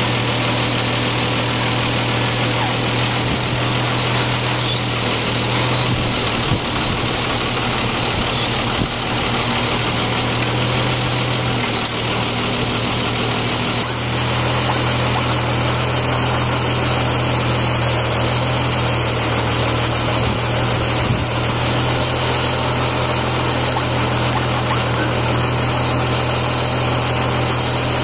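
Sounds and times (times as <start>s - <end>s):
engine droning steadily: 0.0s - 28.0s.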